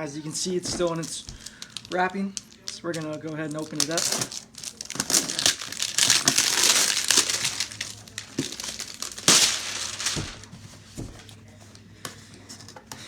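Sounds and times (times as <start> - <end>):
packaging wrap crinkling: 0.3 - 11.4.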